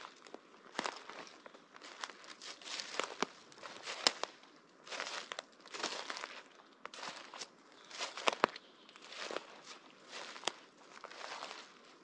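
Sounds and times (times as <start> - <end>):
twigs snapping underfoot: 0.0 - 11.7
footsteps on dry forest floor: 0.0 - 12.0.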